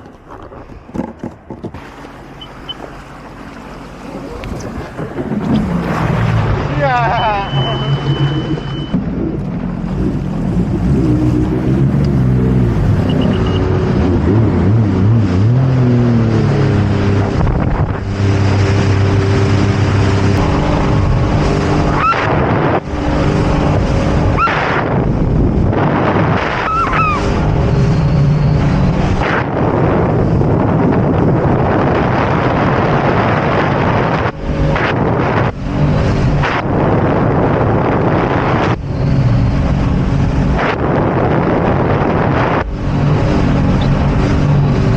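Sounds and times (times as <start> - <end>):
jet ski engine: 0.0 - 44.9
wind on microphone: 4.0 - 44.9.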